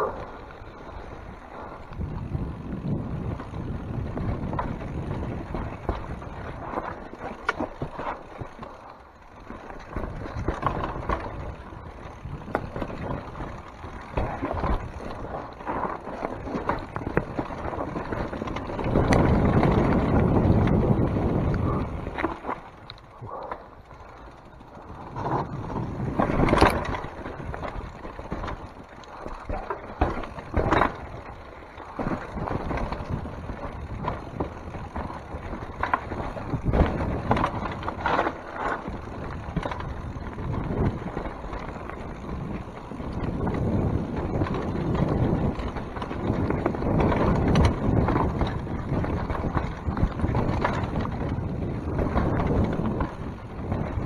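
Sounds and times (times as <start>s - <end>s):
wind on microphone: 0.0s - 7.0s, 9.9s - 23.6s, 24.9s - 28.6s, 32.0s - 54.0s
bike tyres on rocky trail: 0.0s - 54.0s
bike knocking on rocks: 1.9s - 8.8s, 9.4s - 23.6s, 25.0s - 54.0s.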